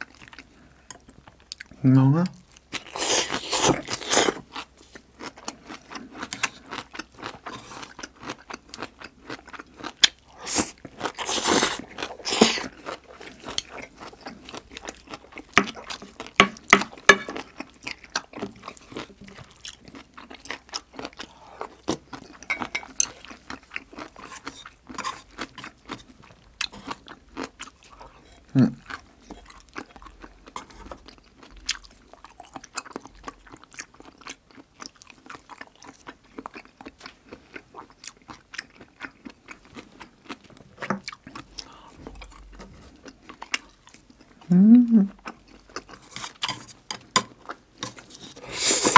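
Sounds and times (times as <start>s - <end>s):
food crunching: 0.0s - 44.5s, 45.1s - 48.9s
chewing with wet mouth sounds: 0.0s - 48.9s.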